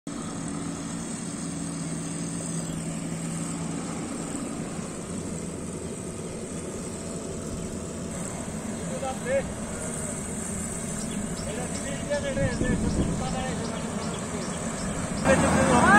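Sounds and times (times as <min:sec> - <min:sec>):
engine humming: 0:00.0 - 0:15.9
steady mechanical noise: 0:00.1 - 0:15.9.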